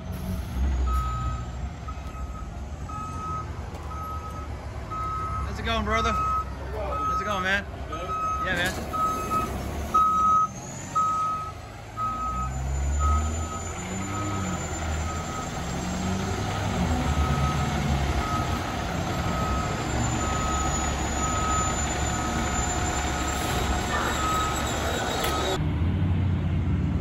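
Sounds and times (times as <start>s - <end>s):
diesel engine rumble: 0.0s - 27.0s
reverse alarm beeping: 0.9s - 25.6s.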